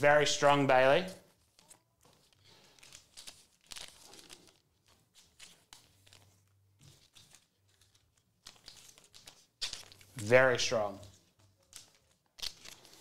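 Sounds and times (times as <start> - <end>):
trading cards rustling: 0.4 - 13.0.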